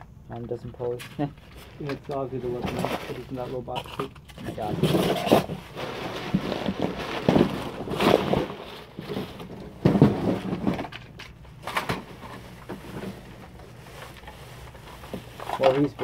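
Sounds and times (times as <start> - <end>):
paper and plastic bags rustling: 0.8 - 16.0.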